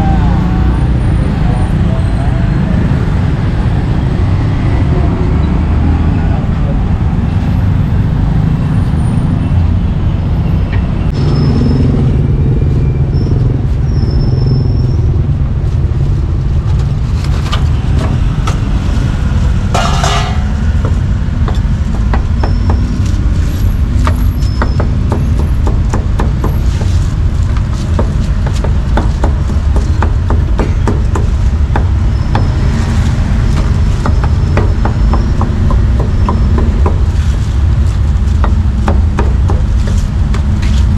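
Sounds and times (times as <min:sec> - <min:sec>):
low rumble of street traffic: 0:00.0 - 0:40.9.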